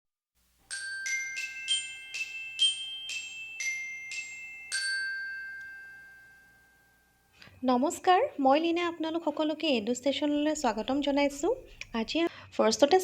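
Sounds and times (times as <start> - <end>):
glockenspiel jingle: 0.7 - 8.9, 10.6 - 13.0.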